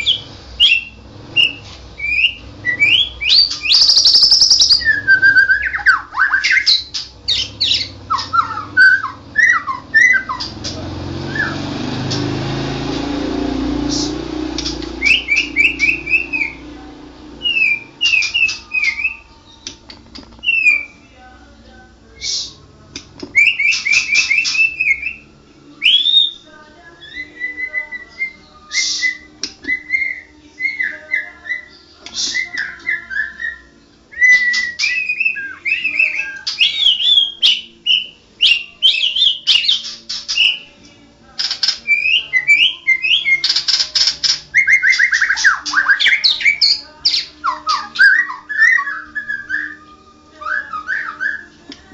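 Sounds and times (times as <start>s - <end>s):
songbird whistled song: 0.0s - 21.2s, 22.1s - 51.9s.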